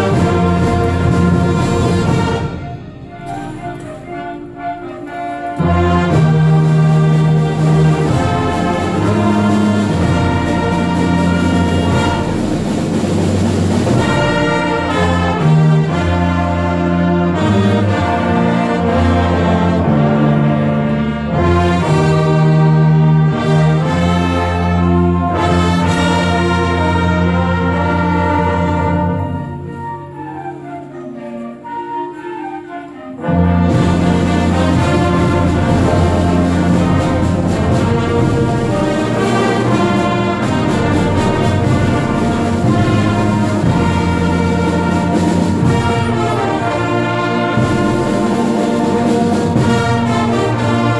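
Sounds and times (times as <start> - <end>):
brass over low held notes: 0.0 - 50.9
concert band playing: 0.0 - 50.9.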